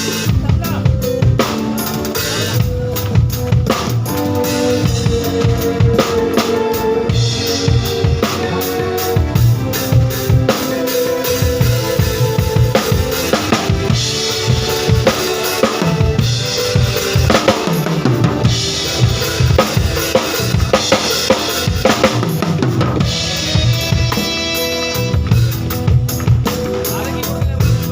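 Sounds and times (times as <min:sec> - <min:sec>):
drum kit playing: 0:00.0 - 0:27.9
pitched backing music: 0:00.0 - 0:27.9.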